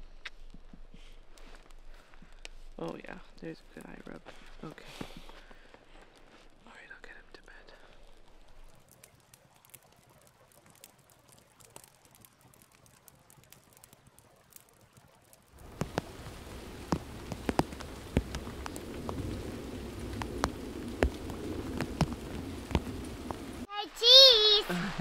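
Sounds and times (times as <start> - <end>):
rain pattering: 0.0 - 25.0
raindrops striking a surface: 1.0 - 25.0.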